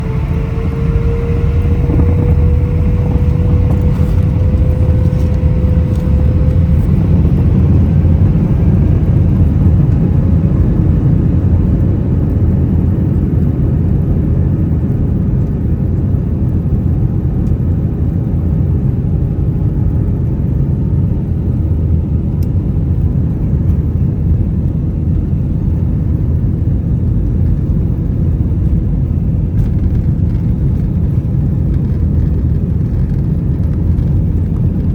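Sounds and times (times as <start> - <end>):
faint jet engine whine: 0.0 - 34.9
jet engine rumble in cabin: 0.0 - 34.9.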